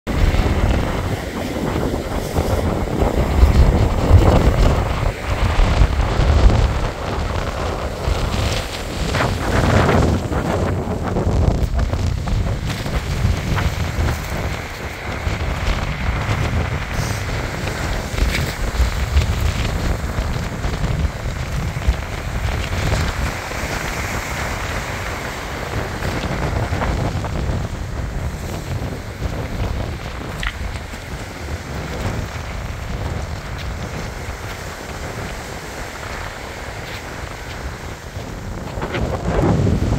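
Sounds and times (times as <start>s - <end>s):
wind buffeting microphone: 0.0s - 39.9s
surf breaking on pebble beach: 0.1s - 39.9s.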